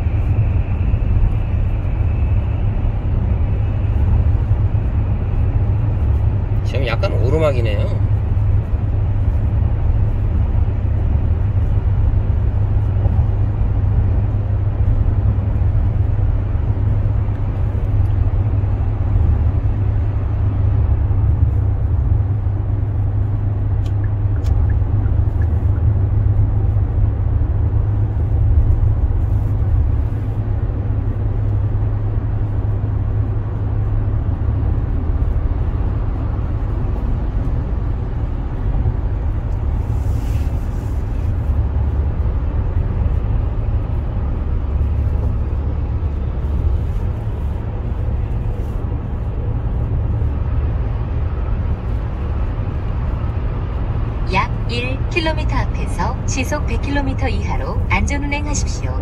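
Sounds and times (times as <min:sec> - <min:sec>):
car road rumble inside cabin: 0:00.0 - 0:59.0.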